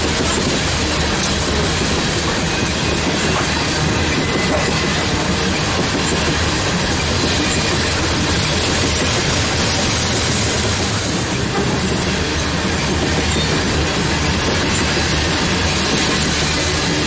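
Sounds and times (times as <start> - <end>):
freight train wheels on track: 0.0 - 17.0.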